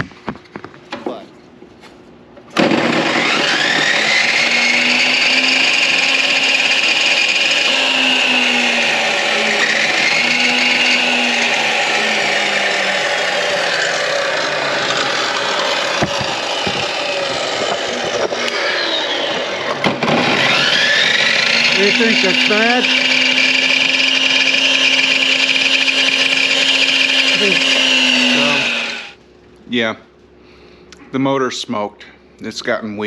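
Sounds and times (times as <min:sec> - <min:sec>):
electric motor whining: 0:02.6 - 0:29.2.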